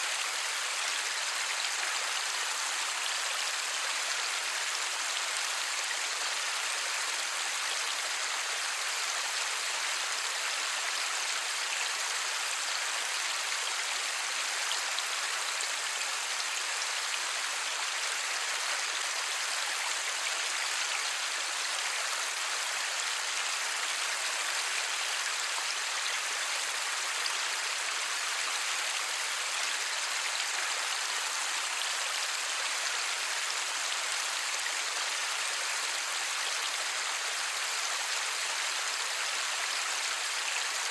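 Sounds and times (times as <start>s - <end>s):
light rain falling: 0.0s - 40.9s.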